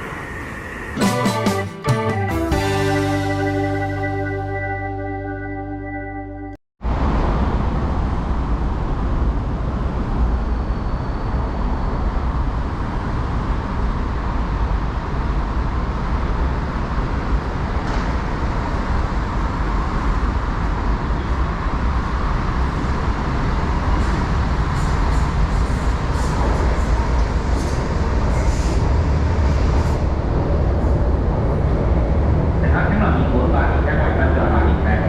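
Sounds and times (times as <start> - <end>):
train rumbling: 0.0 - 1.5, 6.9 - 35.0.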